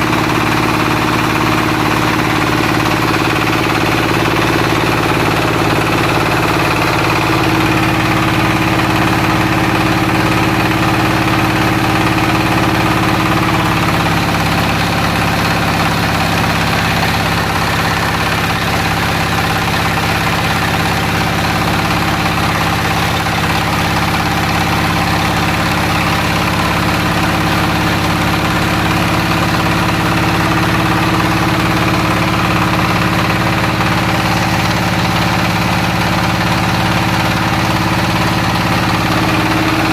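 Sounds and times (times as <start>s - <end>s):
extruder machine humming: 0.0s - 39.9s.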